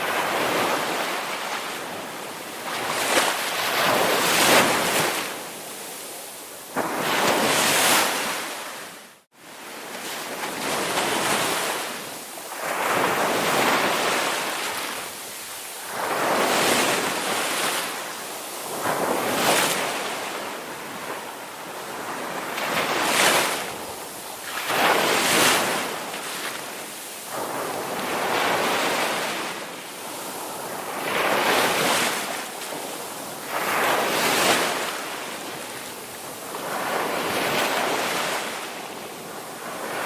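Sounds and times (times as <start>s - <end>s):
ocean surf breaking on beach: 0.0s - 40.0s.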